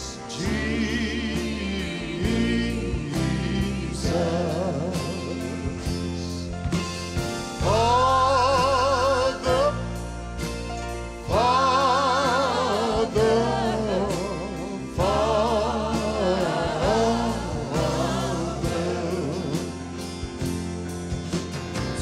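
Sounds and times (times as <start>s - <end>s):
man singing with vibrato: 0.0s - 6.5s, 7.6s - 10.2s, 11.3s - 19.9s
piano and band accompaniment: 0.0s - 22.0s
steady bass notes: 0.0s - 22.0s.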